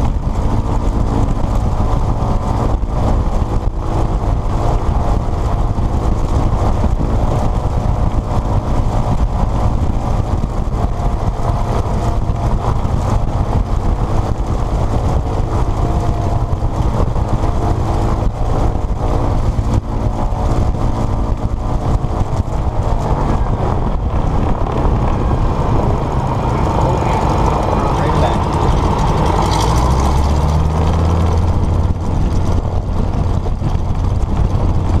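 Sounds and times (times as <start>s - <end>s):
radial aircraft engine rumbling: 0.0s - 35.0s.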